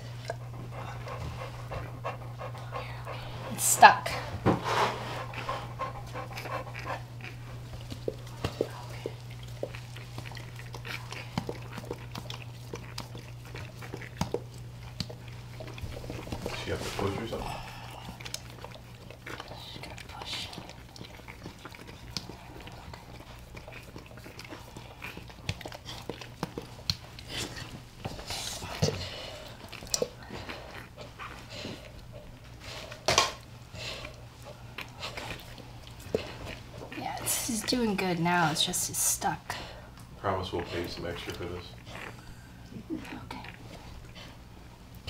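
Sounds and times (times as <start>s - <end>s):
dog panting quickly: 0.0s - 33.0s, 37.3s - 42.0s.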